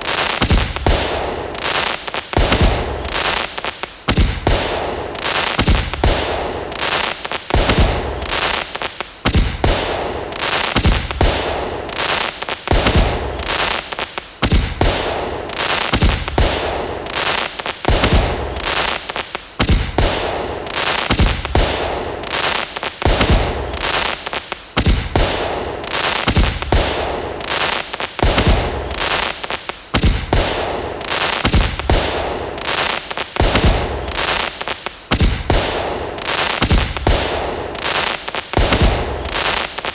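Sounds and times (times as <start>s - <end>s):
faint falling whistles: 0.0s - 19.1s, 19.7s - 39.9s
crackling hiss: 0.0s - 39.9s
fireworks bangs: 0.0s - 39.9s.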